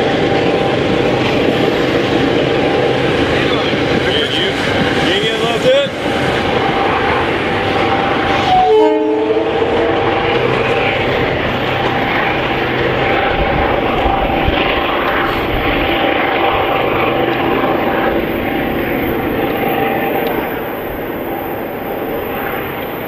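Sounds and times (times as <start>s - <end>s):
diesel locomotive engine drone: 0.0s - 23.0s
train wheels rumbling on rails: 0.0s - 23.0s.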